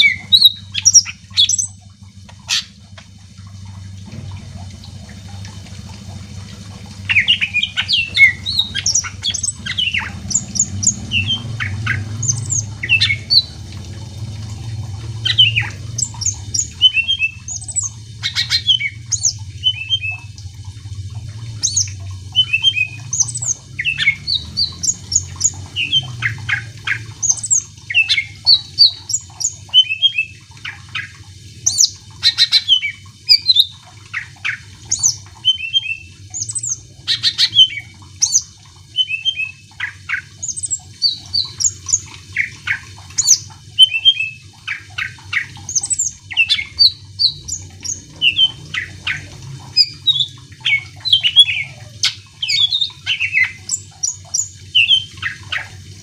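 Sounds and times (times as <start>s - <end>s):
bird singing chirps and whistles: 0.0s - 1.8s, 7.1s - 13.5s, 15.2s - 20.3s, 21.6s - 55.7s
faint low hum: 0.0s - 55.8s.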